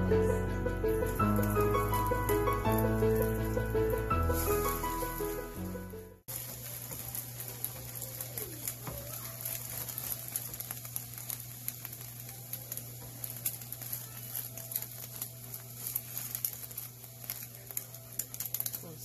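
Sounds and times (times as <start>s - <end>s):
eggs sizzling in frying pan: 0.0s - 19.0s.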